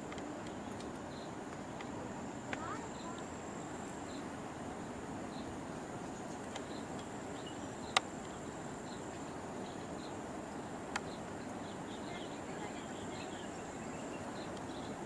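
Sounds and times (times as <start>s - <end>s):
faint chirps: 2.6s - 15.0s
high-pitched insect trill: 2.6s - 15.0s.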